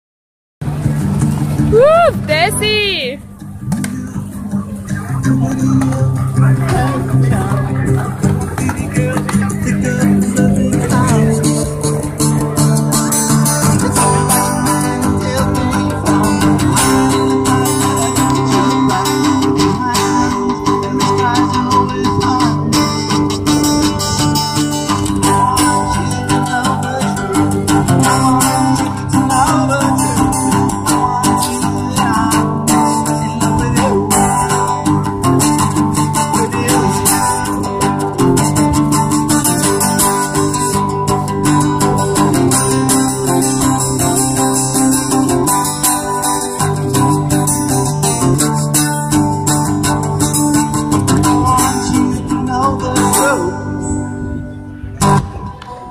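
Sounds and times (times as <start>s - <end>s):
bass: 0.6s - 55.9s
guitar-led pop music: 0.6s - 55.9s.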